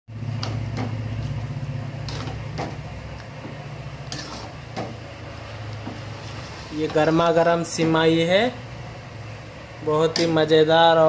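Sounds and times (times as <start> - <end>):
low machine hum: 0.1 - 11.0.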